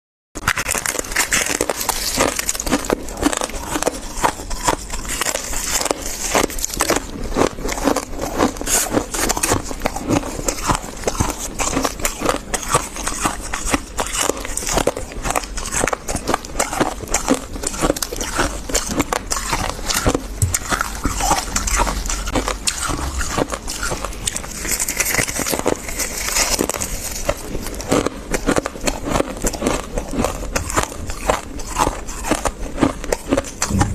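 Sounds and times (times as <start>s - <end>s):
crunchy frost being chewed: 0.4s - 33.9s.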